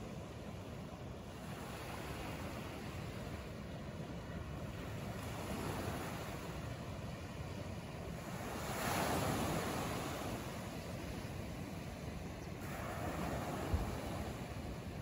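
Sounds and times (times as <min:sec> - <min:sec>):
waves washing up sandy beach: 0:00.0 - 0:15.0.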